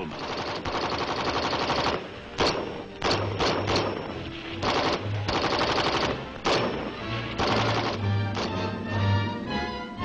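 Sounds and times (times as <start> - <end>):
rifle shots: 0.0 - 8.8
rattling gunfire bursts: 0.1 - 8.7.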